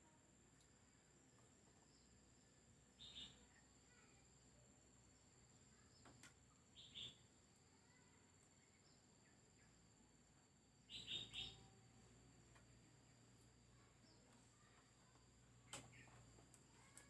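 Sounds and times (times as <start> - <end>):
faint bird chirps: 0.0 - 10.1, 10.8 - 17.0.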